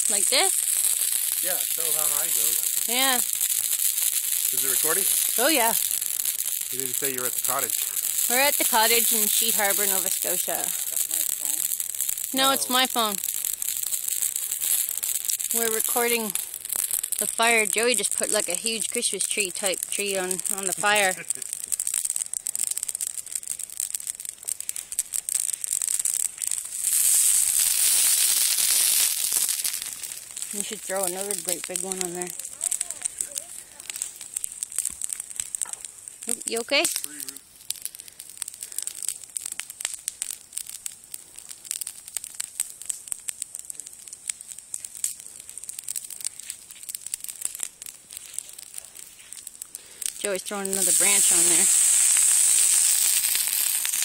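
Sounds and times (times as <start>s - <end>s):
campfire crackling and popping: 0.0s - 54.0s
hiss of burning needles: 0.0s - 54.0s.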